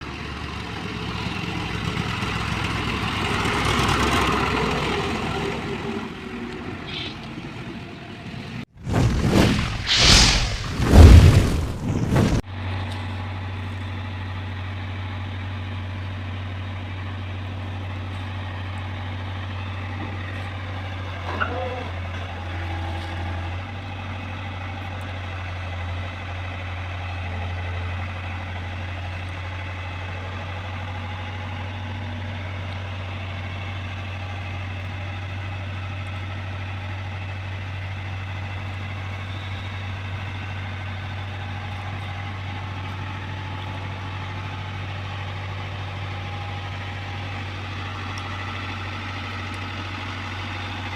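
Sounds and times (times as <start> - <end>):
heavy vehicle engine humming: 0.0 - 8.8, 11.7 - 50.9.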